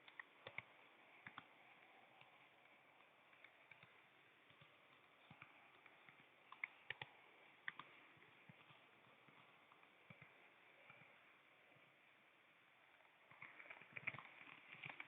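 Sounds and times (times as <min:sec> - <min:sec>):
quiet hiss: 0:00.0 - 0:15.0.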